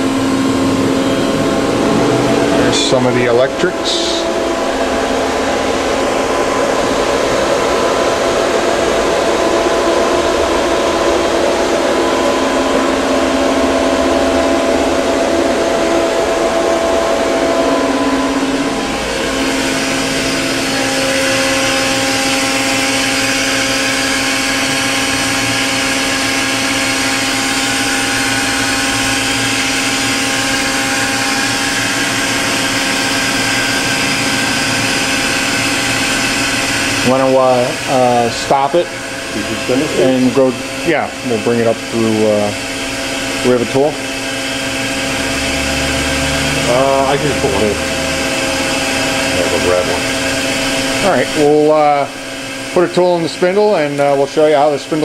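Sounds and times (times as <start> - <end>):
machine hum and whine: 0.0 - 55.0.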